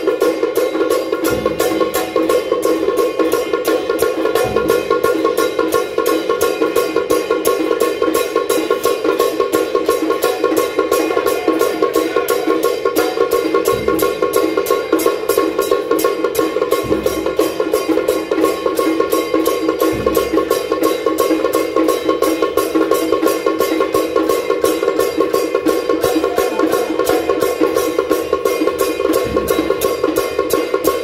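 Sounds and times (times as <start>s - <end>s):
gongs: 0.0s - 8.9s, 9.9s - 31.0s
drum beating: 0.0s - 31.0s
hand cymbals: 0.0s - 31.0s.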